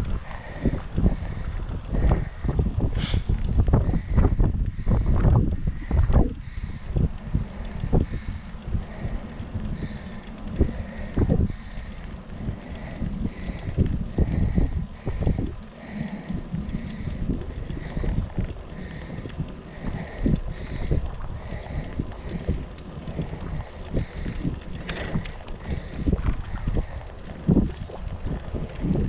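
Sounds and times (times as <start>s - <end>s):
tyres rumbling on rough tarmac: 0.0s - 29.0s
wind buffeting microphone: 0.0s - 29.0s.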